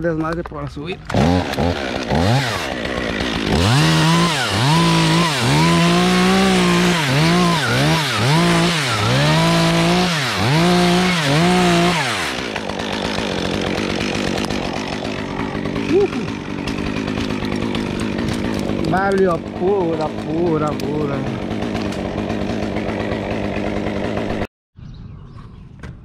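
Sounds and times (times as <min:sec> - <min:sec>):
chainsaw revving: 0:01.0 - 0:24.5.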